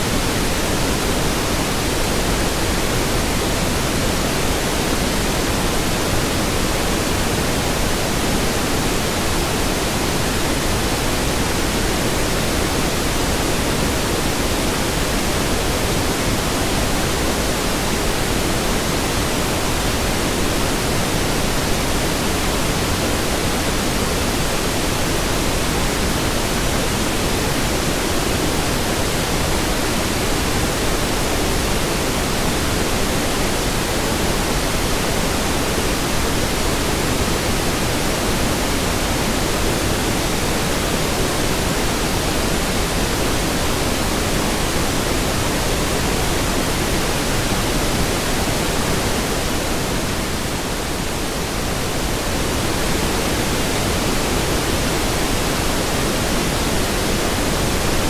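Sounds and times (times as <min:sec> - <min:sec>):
steady pink noise: 0:00.0 - 0:58.0.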